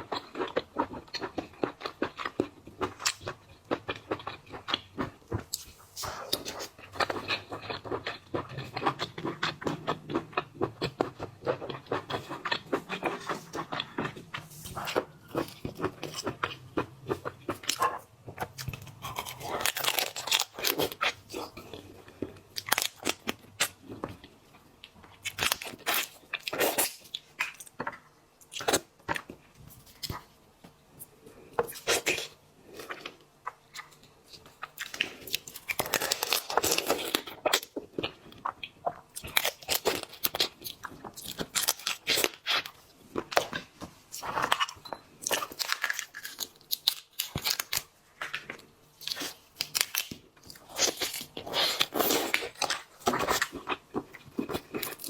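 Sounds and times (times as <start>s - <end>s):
crunching and chewing: 0.0s - 30.3s, 31.3s - 55.0s.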